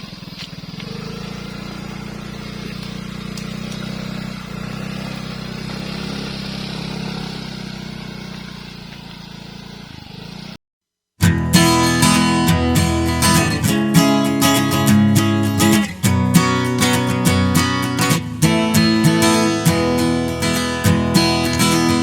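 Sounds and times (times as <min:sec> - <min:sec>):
vehicle engine running: 0:00.0 - 0:10.6, 0:11.3 - 0:22.0.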